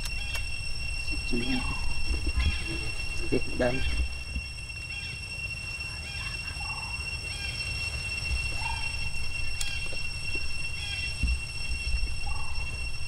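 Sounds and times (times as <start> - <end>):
low rumble: 0.0 - 5.0, 7.5 - 13.0
steady high-pitched drone: 0.0 - 13.0.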